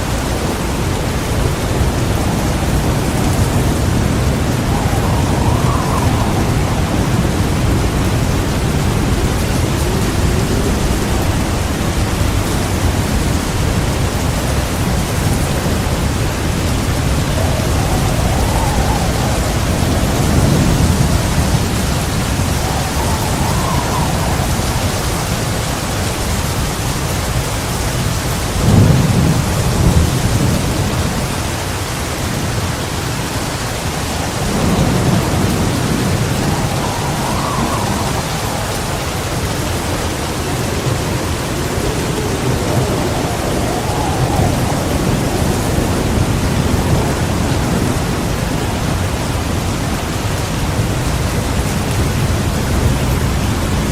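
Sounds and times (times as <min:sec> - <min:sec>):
heavy rain: 0:00.0 - 0:53.9
thunder rumbling: 0:00.0 - 0:53.9.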